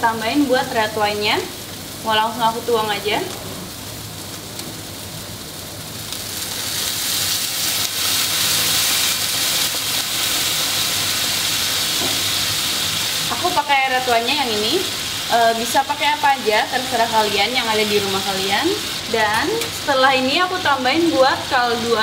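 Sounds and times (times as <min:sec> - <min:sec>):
wine sizzling in a hot frying pan: 0:00.0 - 0:22.0.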